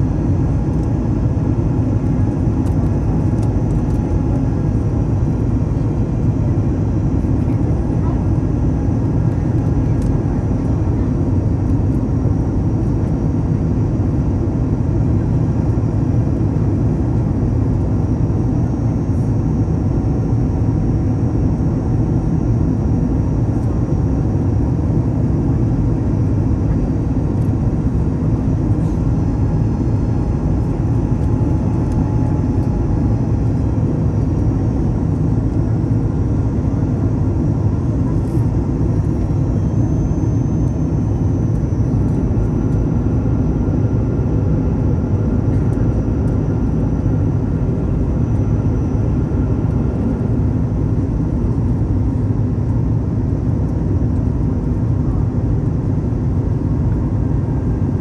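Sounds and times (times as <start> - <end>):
low rumble of airflow and engines: 0.0 - 58.0.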